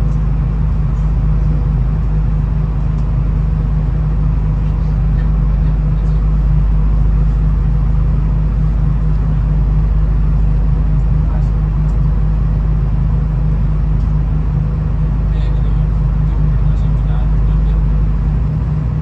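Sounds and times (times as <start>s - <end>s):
diesel railcar rumble: 0.0s - 19.0s.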